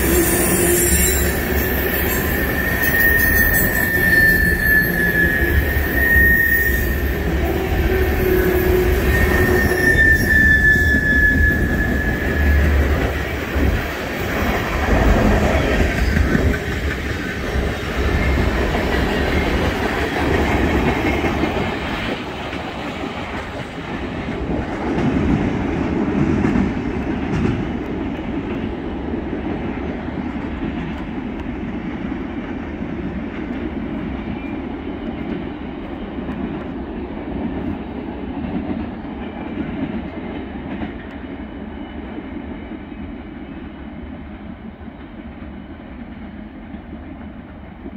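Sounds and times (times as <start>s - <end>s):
freight train rolling on rails: 0.0s - 47.9s.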